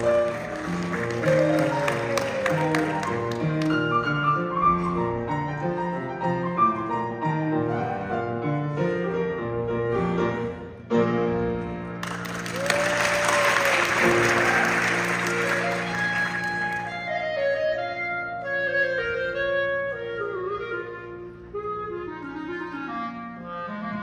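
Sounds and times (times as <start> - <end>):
piano playing chords: 0.0 - 12.6, 13.6 - 24.0.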